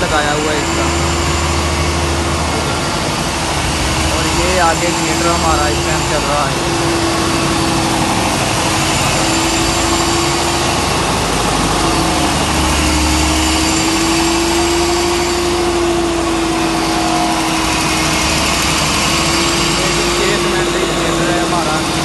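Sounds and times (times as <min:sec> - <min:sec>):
constant whine: 0:00.0 - 0:22.0
gas engine running steadily: 0:00.0 - 0:22.0.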